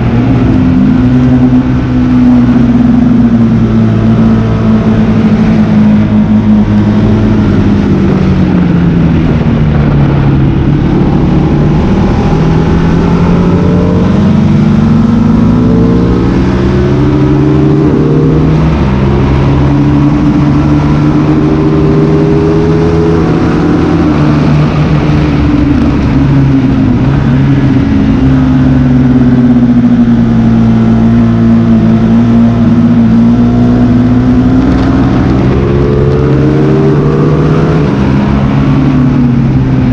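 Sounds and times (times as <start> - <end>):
motorcycle engine shifting gears: 0.0 - 39.9
wind noise: 0.0 - 39.9.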